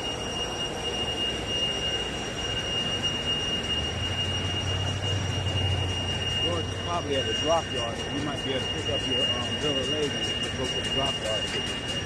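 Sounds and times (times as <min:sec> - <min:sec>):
high-pitched whine: 0:00.0 - 0:12.0
low hum: 0:00.0 - 0:12.0
machinery noise: 0:00.0 - 0:12.0.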